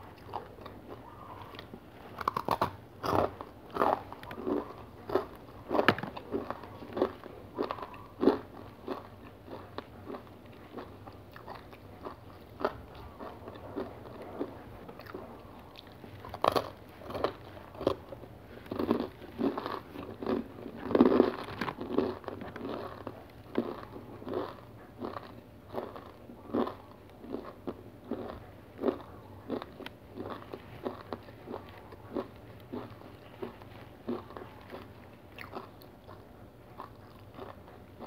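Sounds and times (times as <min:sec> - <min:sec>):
chewing crunchy cereal bar: 0:00.0 - 0:38.0.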